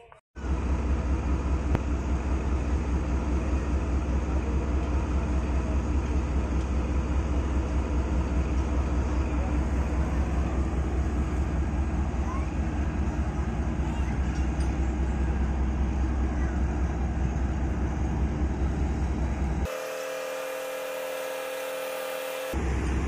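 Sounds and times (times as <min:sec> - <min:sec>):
train diesel engine drone: 0:00.0 - 0:23.0.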